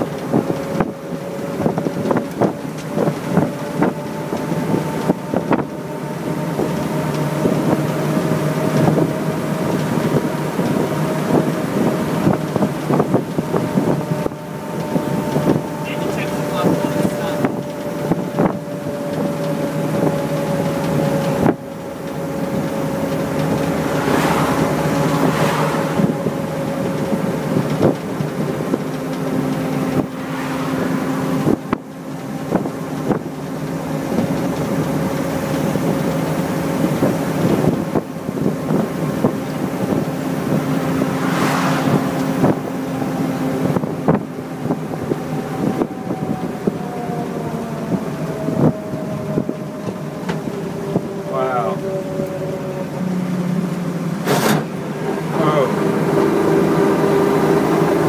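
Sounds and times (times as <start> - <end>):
truck engine running: 0.0 - 58.0
wind buffeting microphone: 0.0 - 58.0.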